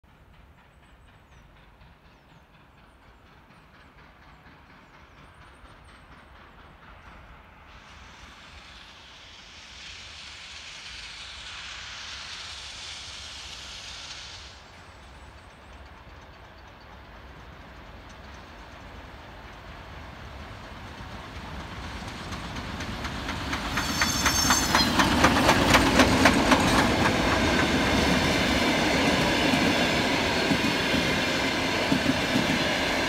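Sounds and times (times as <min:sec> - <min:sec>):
steam locomotive rumble: 0:00.1 - 0:33.0
loud hiss of steam: 0:01.6 - 0:33.0.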